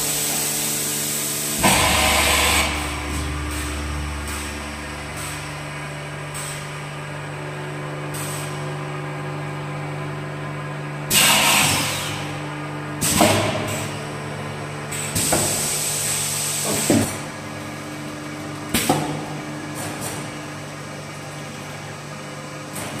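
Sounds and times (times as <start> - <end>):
packing machine humming: 0.0 - 23.0.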